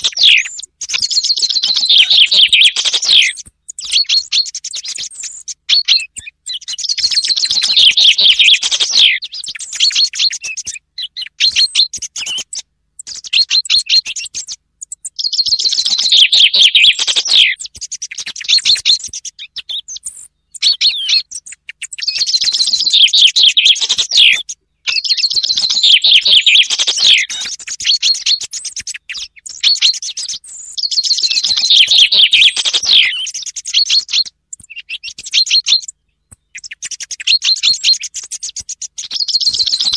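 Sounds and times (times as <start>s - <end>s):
chaffinch song: 0.0s - 39.9s.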